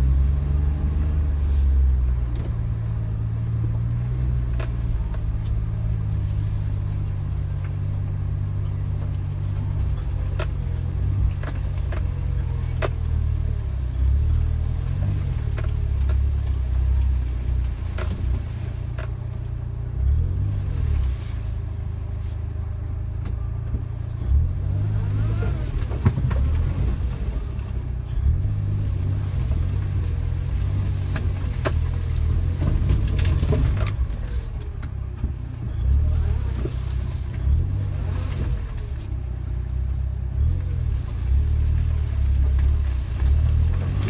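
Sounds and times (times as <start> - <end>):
car engine drone: 0.0 - 44.0.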